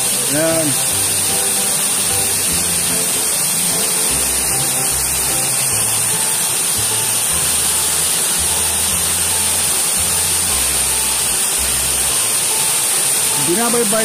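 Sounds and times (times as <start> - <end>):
background music with bass: 0.0 - 14.0
waterfall rushing: 0.0 - 14.0.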